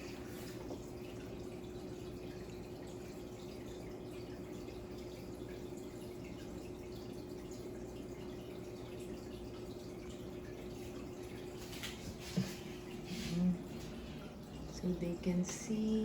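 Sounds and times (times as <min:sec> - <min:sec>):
filter motor hum: 0:00.0 - 0:16.0
water trickling and dripping: 0:00.0 - 0:16.0.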